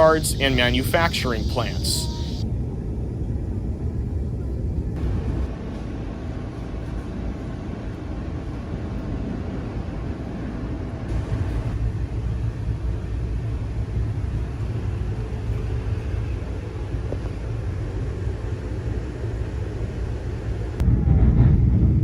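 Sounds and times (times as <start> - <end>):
train rumbling at speed: 0.0 - 22.0.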